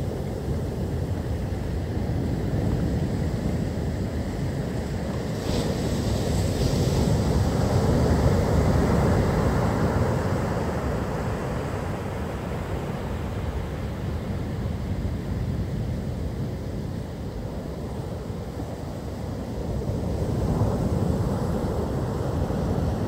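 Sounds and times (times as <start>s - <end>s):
storm surf breaking on beach: 0.0s - 23.0s.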